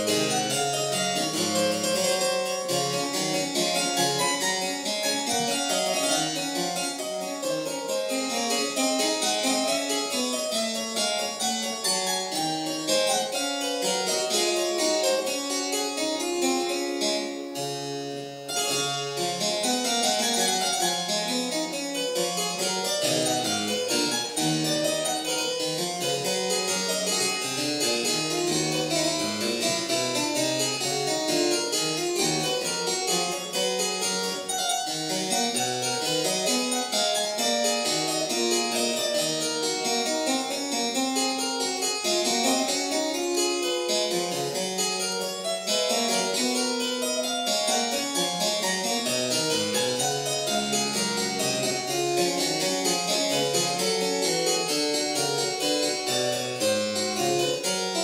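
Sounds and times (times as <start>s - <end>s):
solo harpsichord: 0.0s - 58.0s.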